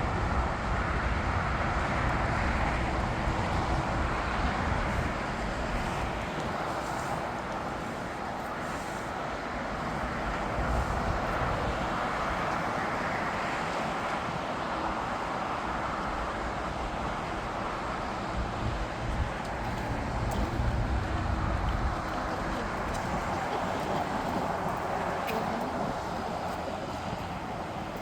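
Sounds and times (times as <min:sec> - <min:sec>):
distant jet engines: 0:00.0 - 0:28.0
road traffic: 0:00.0 - 0:28.0.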